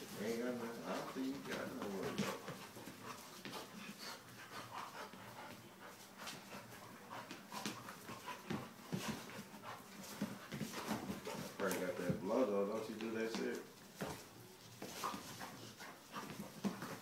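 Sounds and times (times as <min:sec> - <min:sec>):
dogs scuffling: 0:00.0 - 0:17.0.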